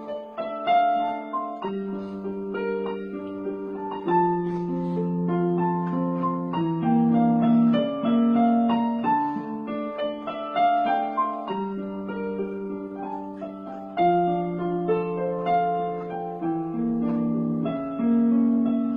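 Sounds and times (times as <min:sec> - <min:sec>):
slow piano melody: 0:00.0 - 0:18.9.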